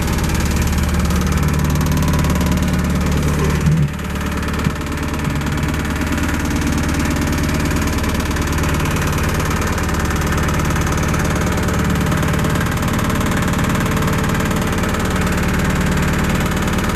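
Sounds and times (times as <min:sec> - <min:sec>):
excavator diesel engine running: 0:00.0 - 0:16.9.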